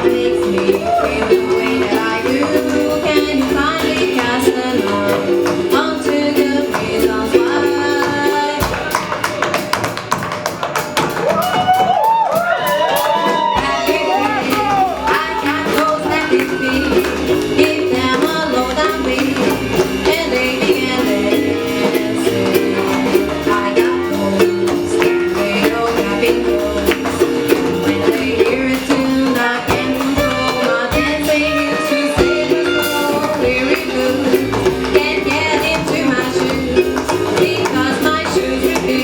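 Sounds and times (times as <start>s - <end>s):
live band playing upbeat tune: 0.0s - 39.0s.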